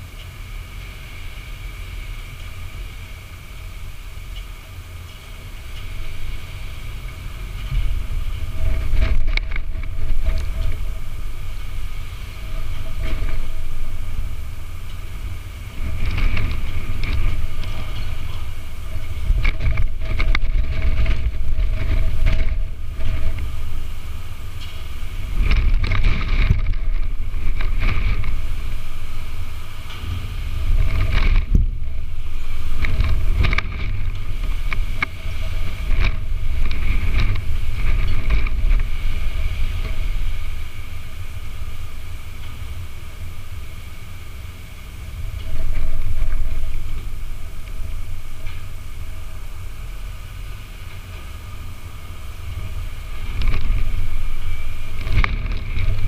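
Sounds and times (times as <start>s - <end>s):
faint steady hum: 0.0s - 56.0s
wind buffeting microphone: 0.0s - 56.0s.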